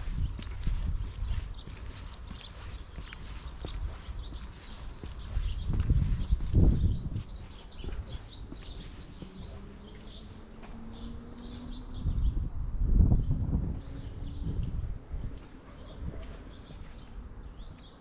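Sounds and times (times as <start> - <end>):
small birds chirping: 0.0 - 12.6, 13.2 - 18.0.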